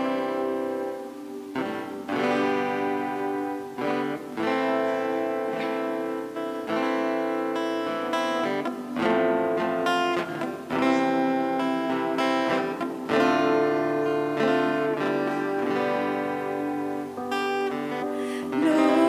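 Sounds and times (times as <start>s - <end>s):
acoustic guitar strumming chords: 0.0s - 19.0s
electric keyboard: 0.0s - 19.0s.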